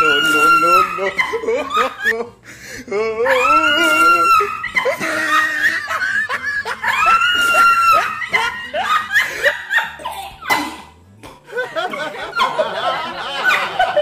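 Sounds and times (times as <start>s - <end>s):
woman laughing: 0.0s - 2.4s, 3.2s - 10.5s, 11.5s - 14.0s.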